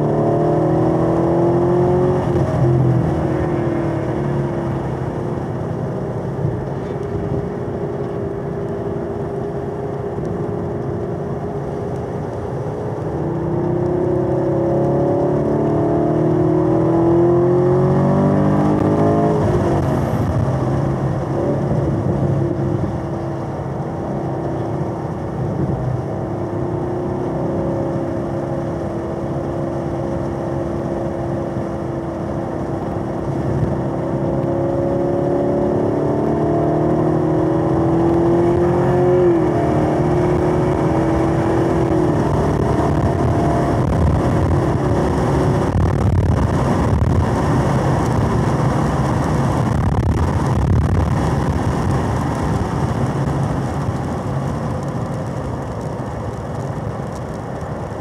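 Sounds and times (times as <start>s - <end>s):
car engine accelerating: 0.0s - 58.0s
road noise: 0.0s - 58.0s.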